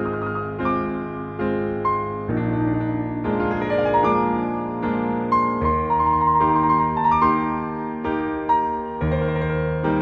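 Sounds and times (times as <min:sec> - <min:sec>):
slow piano chords: 0:00.0 - 0:10.0.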